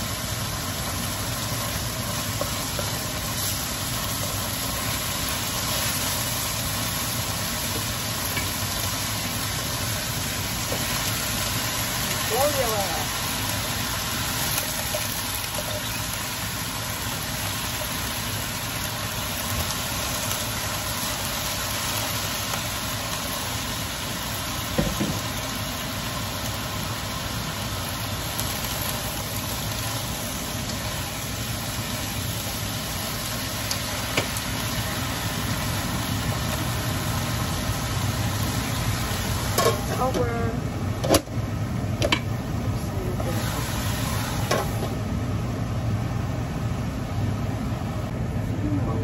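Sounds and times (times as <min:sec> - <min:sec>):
stove hum and hiss: 0:00.0 - 0:49.0.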